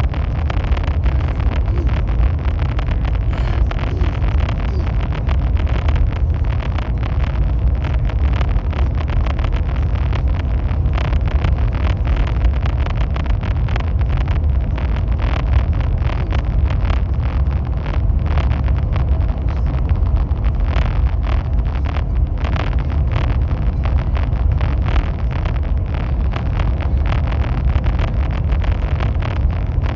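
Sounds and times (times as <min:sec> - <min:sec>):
train deep rumble: 0:00.0 - 0:29.9.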